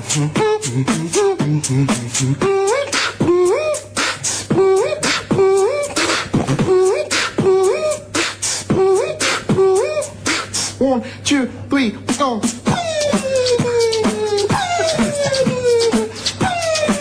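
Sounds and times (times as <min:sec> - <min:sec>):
person beatboxing: 0:00.0 - 0:11.0, 0:12.0 - 0:17.0.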